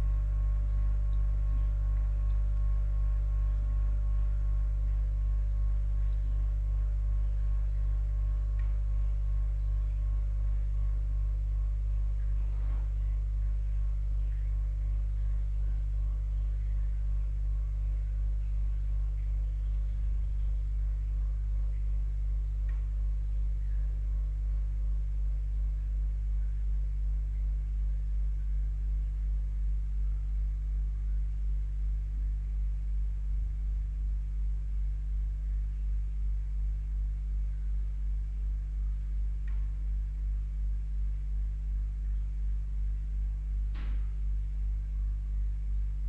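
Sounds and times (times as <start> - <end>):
pump humming: 0.0 - 46.0.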